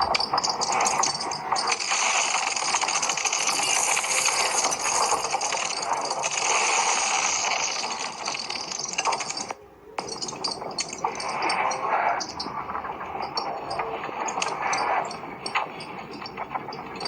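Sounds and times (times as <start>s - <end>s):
dense crackling hiss: 0.0s - 17.0s.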